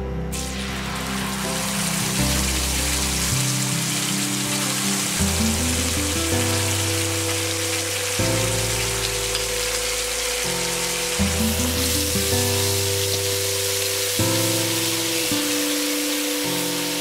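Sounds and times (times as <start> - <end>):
background music with held notes: 0.0 - 17.0
paste sizzling in hot oil: 0.3 - 17.0.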